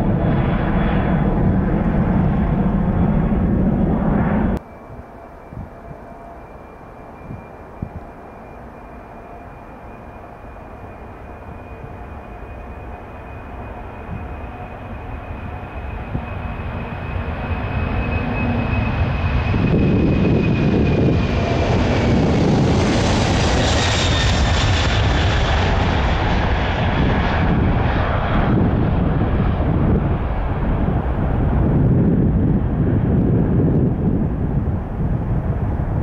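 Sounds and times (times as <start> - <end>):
high engine whine: 0.0 - 36.0
jet engines at takeoff: 0.0 - 36.0.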